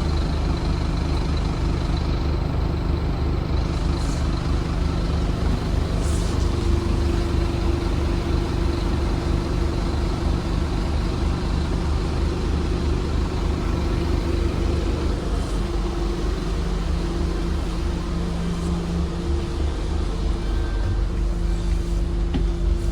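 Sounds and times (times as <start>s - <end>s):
bus diesel engine droning: 0.0s - 22.9s.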